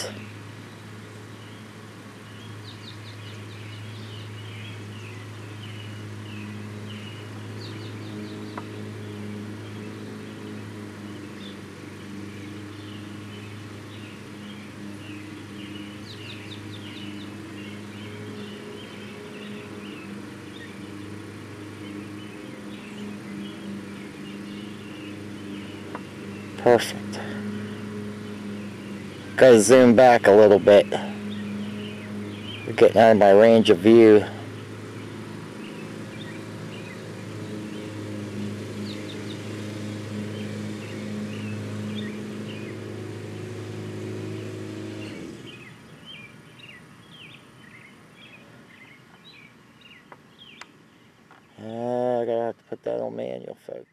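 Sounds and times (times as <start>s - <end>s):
birds chirping: 0.0s - 53.9s
steady low hum: 0.0s - 53.9s.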